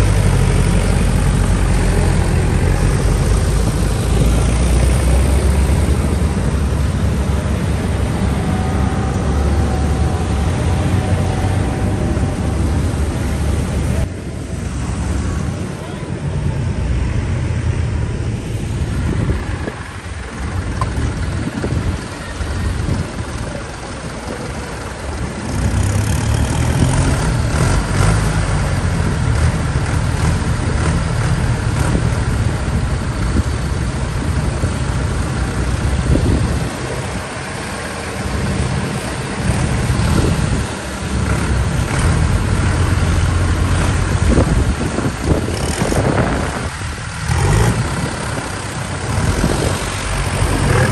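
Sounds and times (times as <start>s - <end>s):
tractor engines running: 0.0s - 50.9s.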